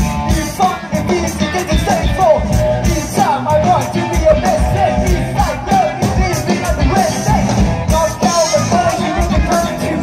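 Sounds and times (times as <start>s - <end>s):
bass guitar: 0.0s - 10.0s
distorted electric guitars: 0.0s - 10.0s
drum kit beat: 0.0s - 10.0s.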